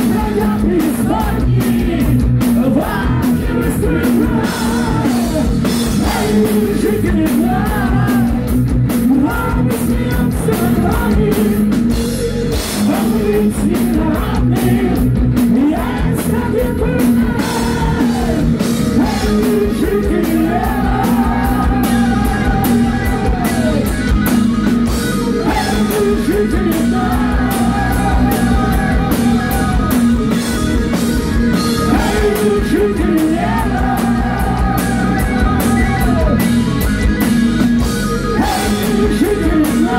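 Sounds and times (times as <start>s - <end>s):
man singing long notes: 0.0s - 23.9s, 25.3s - 30.0s, 31.8s - 36.4s, 38.3s - 39.9s
heavy metal band playing: 0.0s - 39.9s
pounding drum kit: 0.0s - 39.9s.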